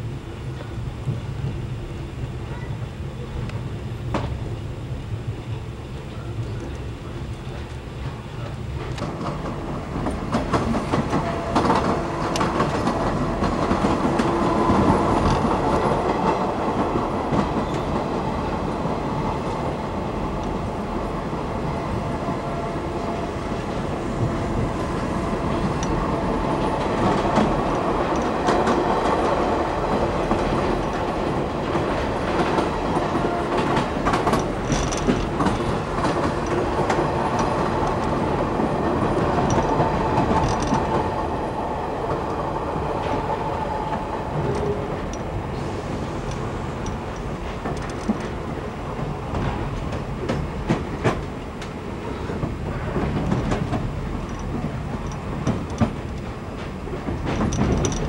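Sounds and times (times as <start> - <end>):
train running rumble: 0.0 - 58.0
train wheels clickety-clack: 0.4 - 58.0.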